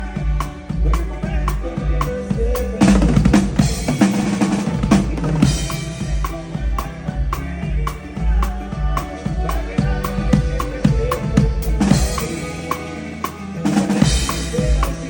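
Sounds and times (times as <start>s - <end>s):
drum fill: 0.0s - 15.0s
live band playing: 0.0s - 15.0s.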